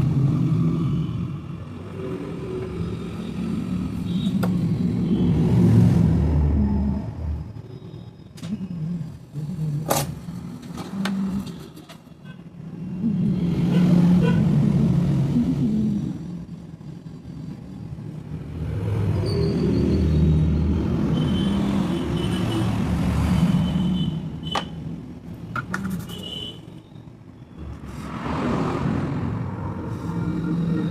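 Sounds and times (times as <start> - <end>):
road traffic rumbling: 0.0 - 30.9.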